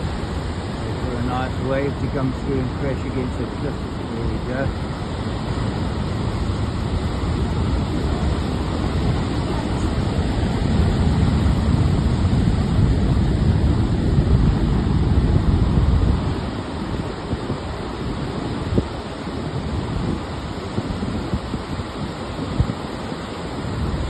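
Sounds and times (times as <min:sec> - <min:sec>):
surf crashing against cliff: 0:00.0 - 0:24.0
wind buffeting microphone: 0:00.0 - 0:24.0.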